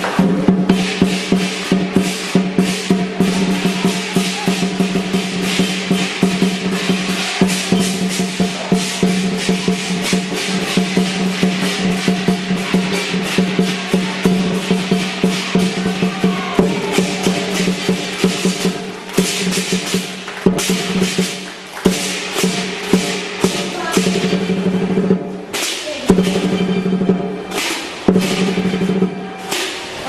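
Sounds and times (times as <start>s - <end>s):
cymbals clashing: 0.0s - 30.0s
large drum rolls: 0.0s - 30.0s.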